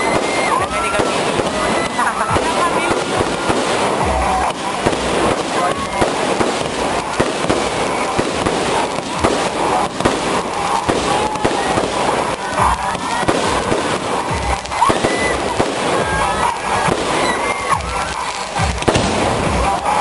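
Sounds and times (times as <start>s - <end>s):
fireworks banging and crackling: 0.0s - 20.0s.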